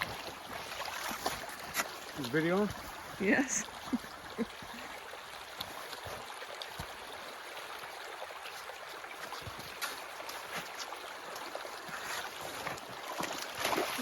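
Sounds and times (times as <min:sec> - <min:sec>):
water rushing along ditch: 0:00.0 - 0:14.0.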